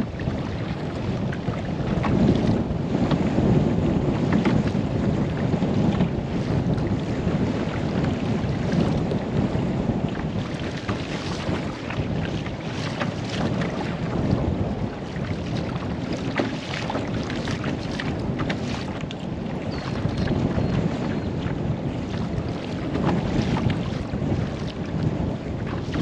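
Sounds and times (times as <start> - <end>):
paddle splashes and water lapping: 0.0 - 26.0
wind rumbling on microphone: 0.0 - 26.0.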